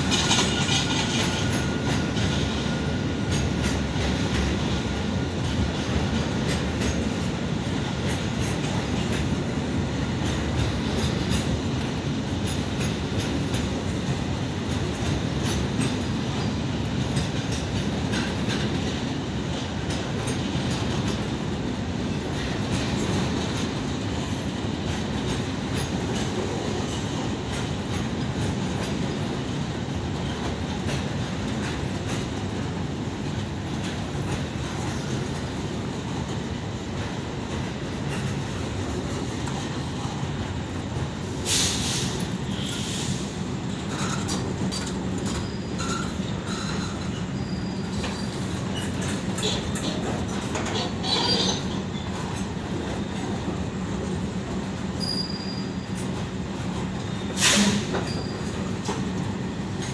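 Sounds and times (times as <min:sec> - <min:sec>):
clickety-clack over rail joints: 0:00.0 - 0:59.9
steel wheels rumbling on rail: 0:00.0 - 0:59.9.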